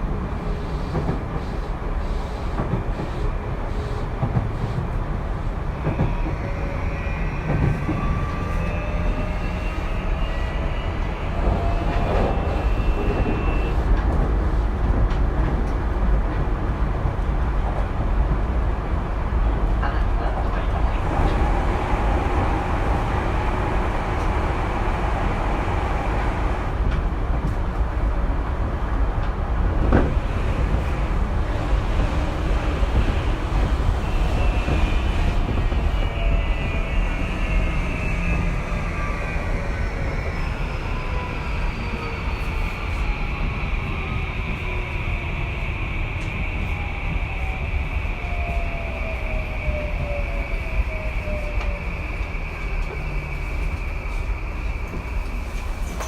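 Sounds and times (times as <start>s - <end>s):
wheels rumbling on track: 0.0s - 56.0s.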